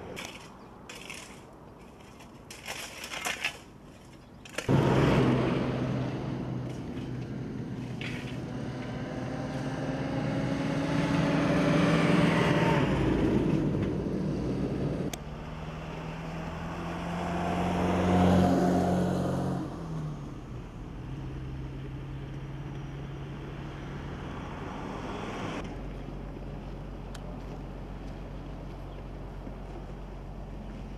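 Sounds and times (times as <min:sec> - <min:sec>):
vehicles passing by: 0:00.0 - 0:30.9
steady engine hum: 0:03.6 - 0:30.9.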